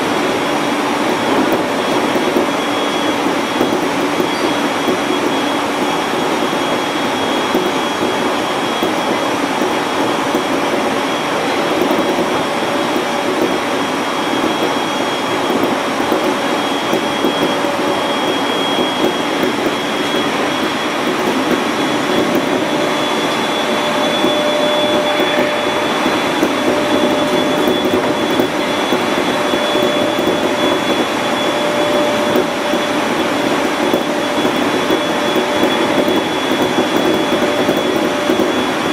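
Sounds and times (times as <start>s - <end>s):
electric train running: 0.0s - 38.9s
faint high whine: 0.0s - 38.9s.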